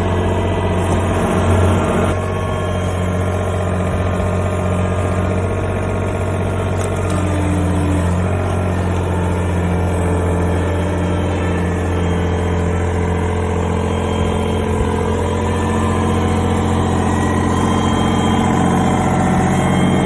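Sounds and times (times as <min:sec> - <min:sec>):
mini excavator engine running: 0:00.0 - 0:20.0.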